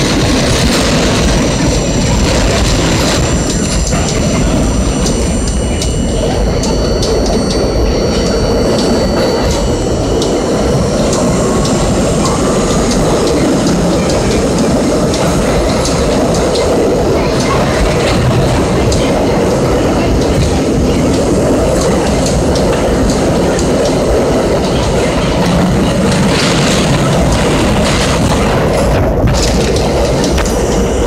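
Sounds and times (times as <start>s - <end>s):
high-pitched wheel ringing: 0.0s - 29.0s
subway wheels rumbling on rails: 0.0s - 31.0s.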